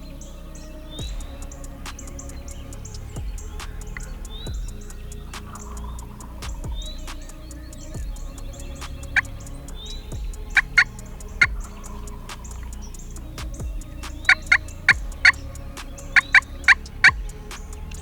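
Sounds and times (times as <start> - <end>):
electronic music with ticking beat: 0.0 - 18.0.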